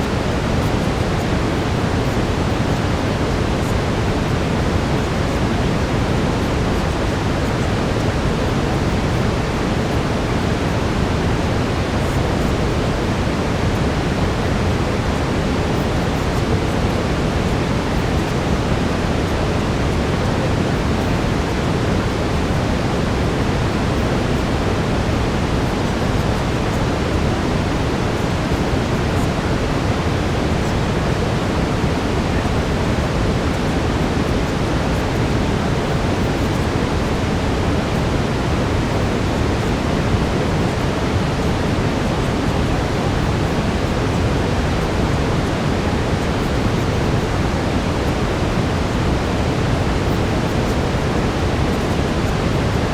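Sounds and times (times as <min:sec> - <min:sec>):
brown noise: 0:00.0 - 0:52.9.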